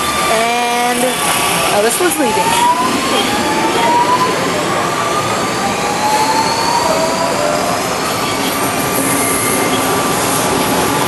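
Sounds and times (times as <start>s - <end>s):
train wheels rumbling on rails: 0.0s - 11.0s
train whine rising in pitch: 0.0s - 11.0s.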